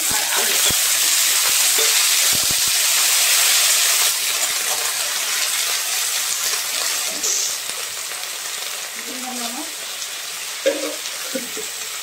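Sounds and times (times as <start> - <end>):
meat and potatoes sizzling in oil: 0.0 - 12.0.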